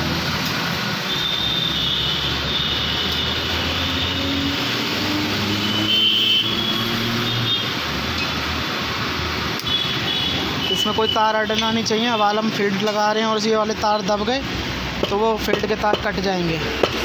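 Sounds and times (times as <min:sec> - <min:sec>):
passing motor vehicles: 0:00.0 - 0:17.0.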